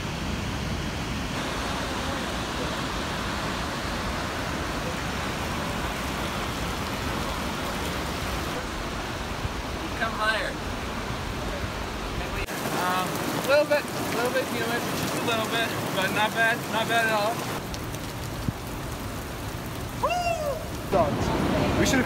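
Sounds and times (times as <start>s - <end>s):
waterfall and rapids roaring: 0.0s - 22.0s.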